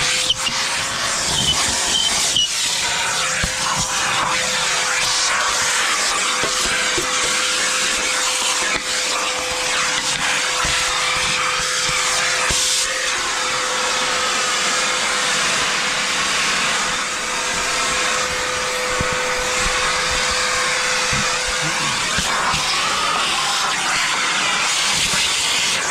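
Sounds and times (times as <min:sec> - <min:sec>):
vacuum motor whining: 0:00.0 - 0:25.9.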